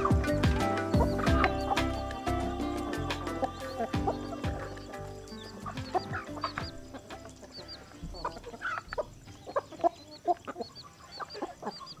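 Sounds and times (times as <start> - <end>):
chickens clucking: 0.0 - 12.0
faint high chirp: 0.0 - 12.0.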